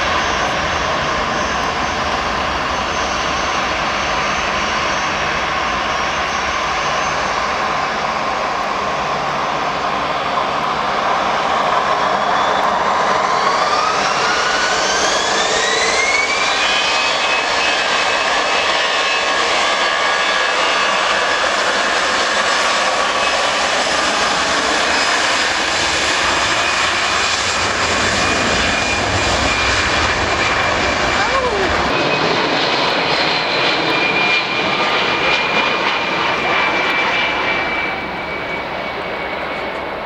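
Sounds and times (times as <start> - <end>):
high engine whine: 0.0 - 40.0
jet engines roaring: 0.0 - 40.0.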